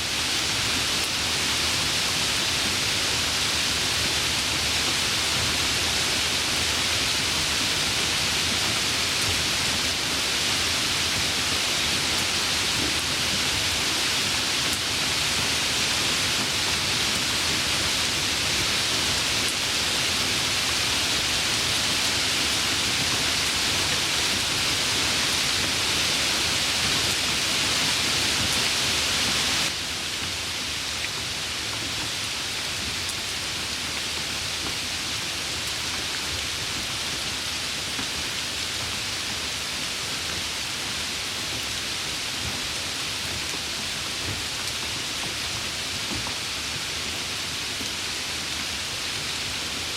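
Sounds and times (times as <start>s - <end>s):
heavy rain: 0.0s - 49.9s.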